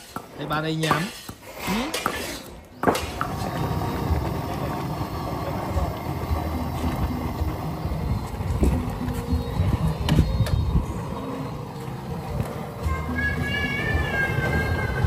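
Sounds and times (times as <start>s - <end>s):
gas stove burner roaring: 2.9s - 15.0s.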